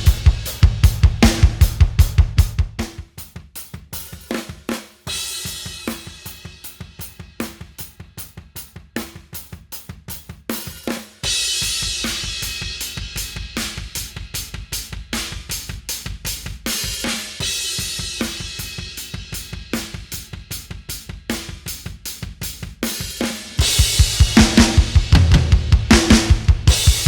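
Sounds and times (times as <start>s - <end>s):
rock drum kit groove: 0.0s - 27.0s.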